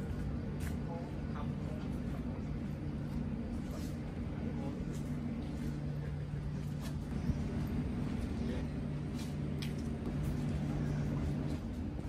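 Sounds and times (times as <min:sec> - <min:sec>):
low distant machinery drone: 0:00.0 - 0:12.0.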